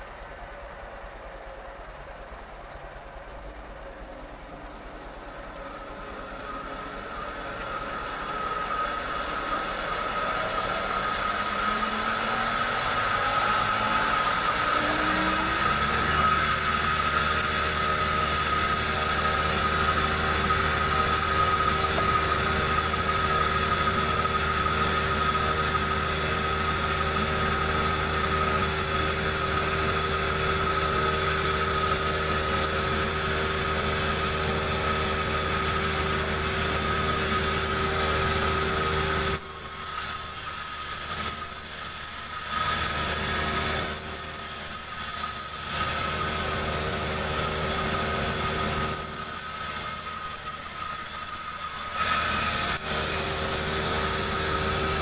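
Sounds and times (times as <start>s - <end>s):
chainsaw engine running: 4.0s - 55.0s.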